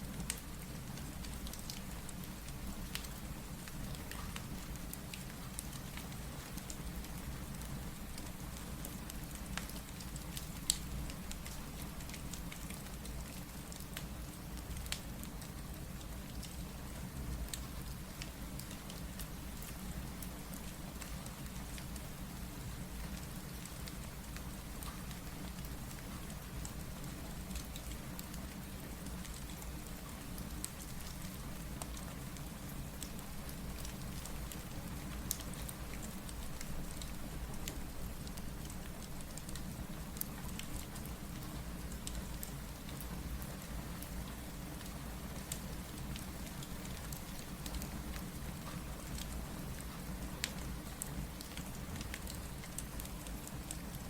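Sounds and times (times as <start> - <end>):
rain hiss: 0.0 - 54.0
wood fire crackling and popping: 0.2 - 15.4, 16.0 - 22.1, 23.1 - 54.0.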